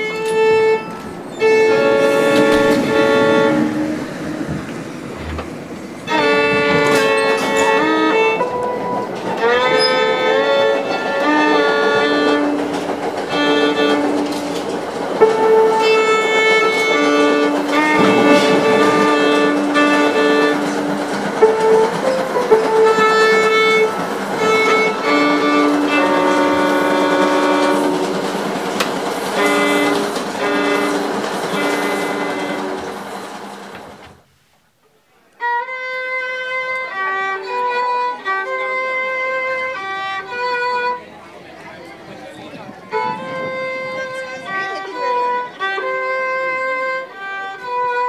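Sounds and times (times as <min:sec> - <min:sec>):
violin playing held notes: 0:00.0 - 0:33.1, 0:35.4 - 0:48.0
steady background hiss: 0:00.0 - 0:44.4.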